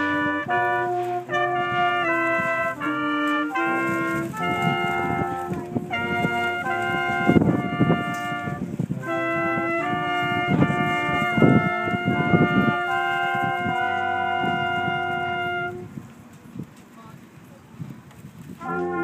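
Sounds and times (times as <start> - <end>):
brass quintet playing chords: 0.0 - 16.0, 18.6 - 19.0.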